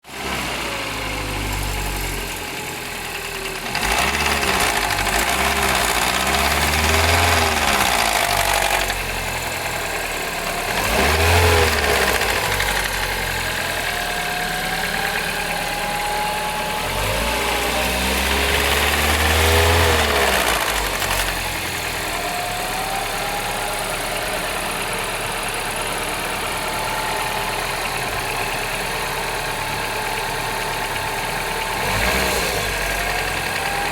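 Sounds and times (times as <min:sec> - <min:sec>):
car engine idling with rattle: 0:00.1 - 0:33.9
engine revving up: 0:03.5 - 0:09.9, 0:10.6 - 0:33.9.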